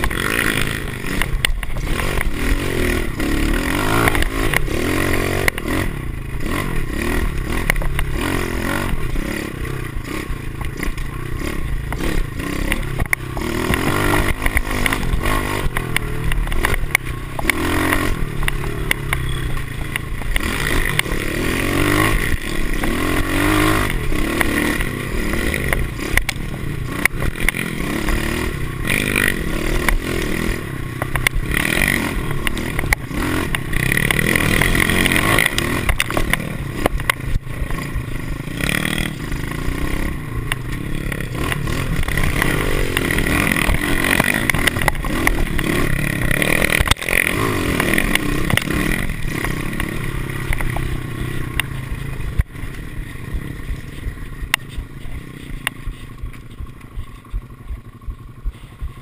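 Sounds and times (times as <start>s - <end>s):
bike rattling over bumps: 0.0s - 59.0s
motorbike engine revving: 0.0s - 59.0s.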